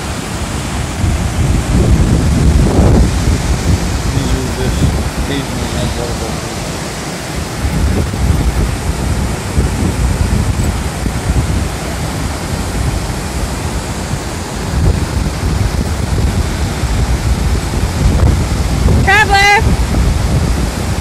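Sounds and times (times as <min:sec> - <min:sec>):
steady rushing hiss: 0:00.0 - 0:19.4
wind buffeting microphone: 0:00.0 - 0:21.0.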